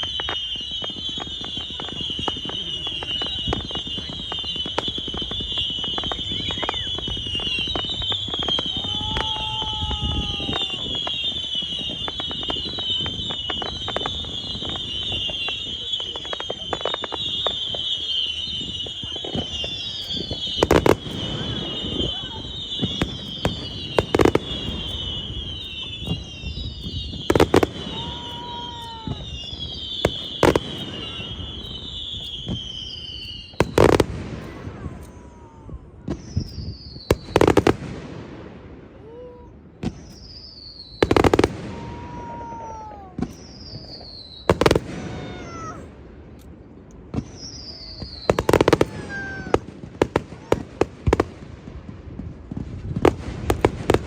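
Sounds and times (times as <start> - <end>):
falling firework whistles: 0.0 - 46.5, 47.1 - 54.0
firework bangs: 0.0 - 54.0.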